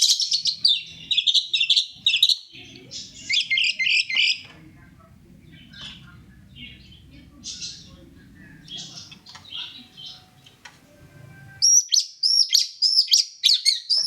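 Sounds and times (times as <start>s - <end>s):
shrike singing chatter: 0.0s - 14.0s.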